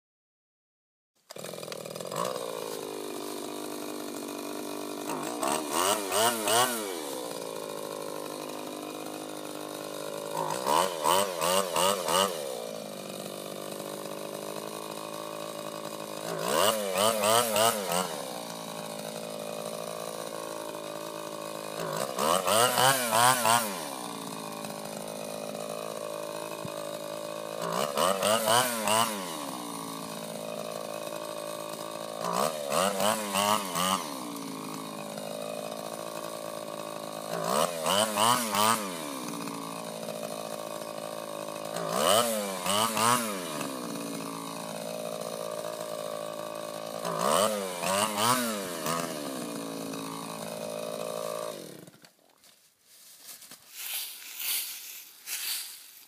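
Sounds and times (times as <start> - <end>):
small gas engine revving: 1.2 - 52.2, 53.8 - 56.0.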